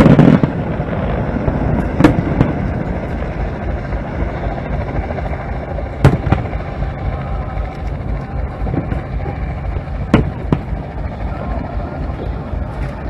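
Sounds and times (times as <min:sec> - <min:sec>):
fireworks bursting: 0:00.0 - 0:13.0
steady low rumble: 0:00.0 - 0:13.0.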